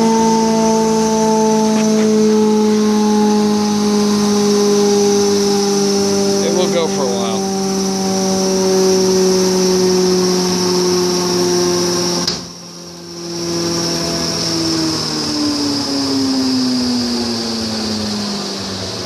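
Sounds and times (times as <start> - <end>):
planer machine hum and hiss: 0.0 - 19.0.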